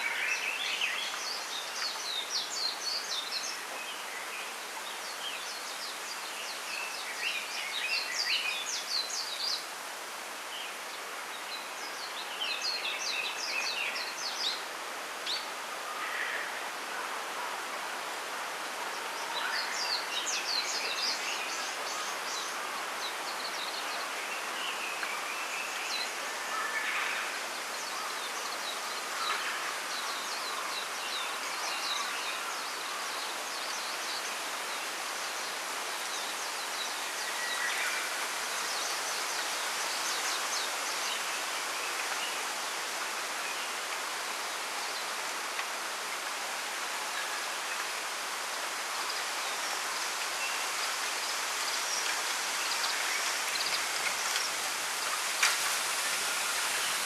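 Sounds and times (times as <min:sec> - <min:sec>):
wind in bamboo leaves: 0:00.0 - 0:57.0.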